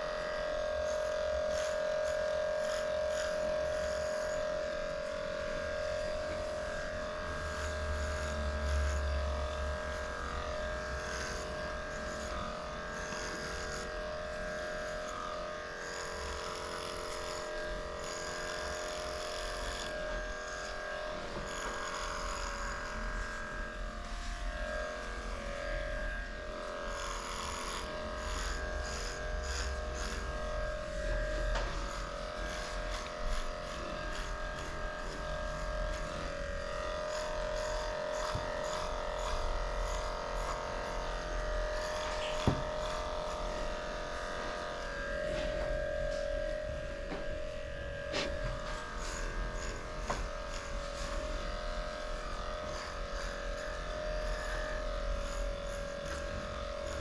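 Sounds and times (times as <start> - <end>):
electric clippers buzzing: 0.0 - 57.0.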